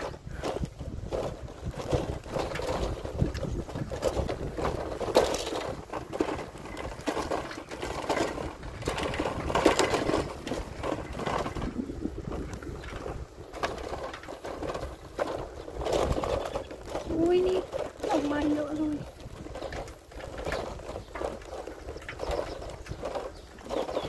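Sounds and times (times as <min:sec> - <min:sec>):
bicycle rattling on concrete road: 0:00.0 - 0:24.0.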